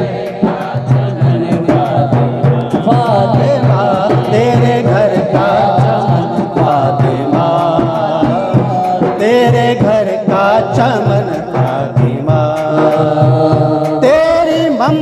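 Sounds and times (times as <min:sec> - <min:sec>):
drum beats: 0:00.0 - 0:15.0
man singing into a microphone: 0:00.0 - 0:15.0.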